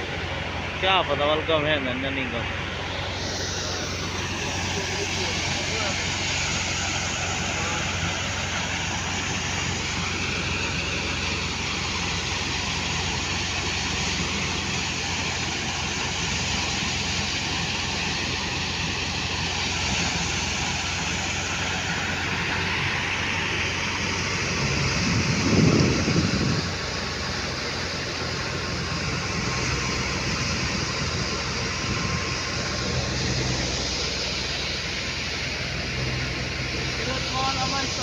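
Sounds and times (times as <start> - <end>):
wheat thresher running: 0.0 - 38.0.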